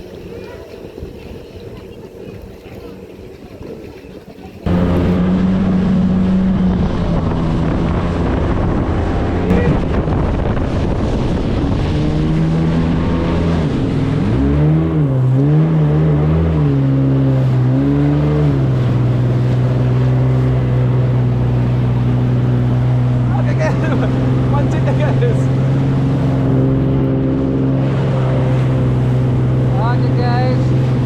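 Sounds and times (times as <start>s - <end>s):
jet ski engine running: 0.0s - 31.0s
wind on microphone: 0.0s - 31.0s.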